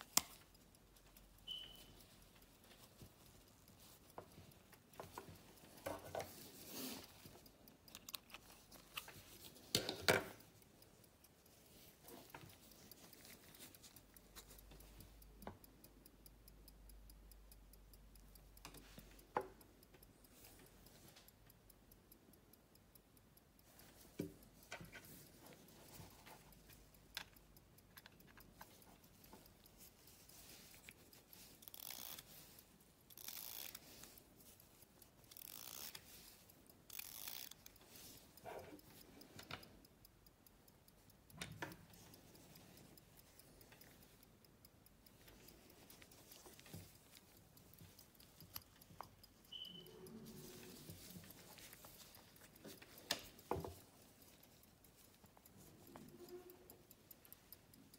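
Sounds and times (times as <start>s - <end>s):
clicks and rustling of handling: 0.0s - 15.7s, 23.6s - 57.9s
pocket watch ticking: 0.0s - 57.9s.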